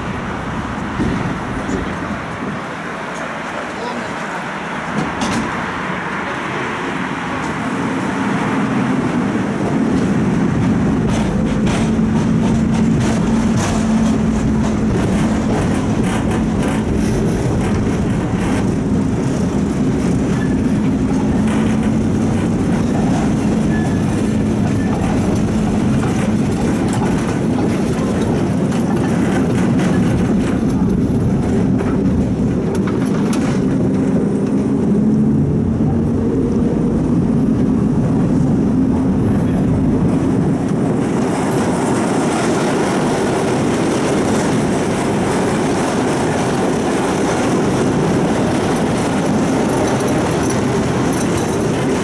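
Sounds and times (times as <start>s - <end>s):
tram wheels rumbling on track: 0.0s - 52.0s.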